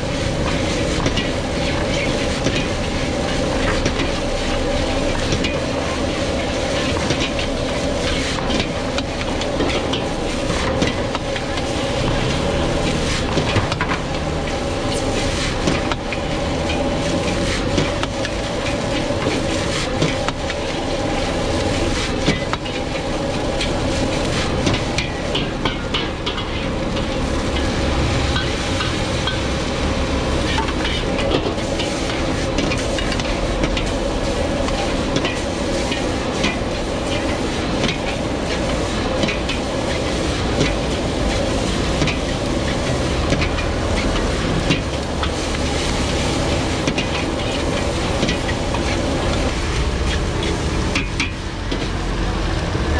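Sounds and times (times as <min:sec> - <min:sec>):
gas flame rushing: 0:00.0 - 0:52.8
food sizzling: 0:00.0 - 0:52.9
metal utensils clinking on wok: 0:00.4 - 0:29.7, 0:30.4 - 0:51.9.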